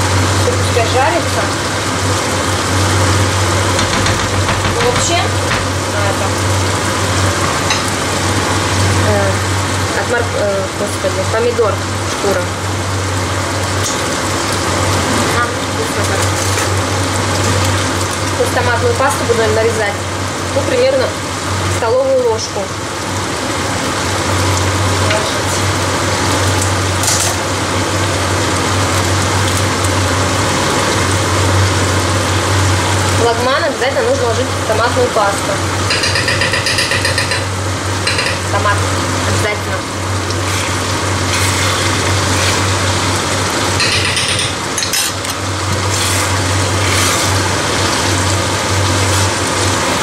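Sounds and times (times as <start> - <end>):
meat and vegetables sizzling in oil: 0.0 - 50.0.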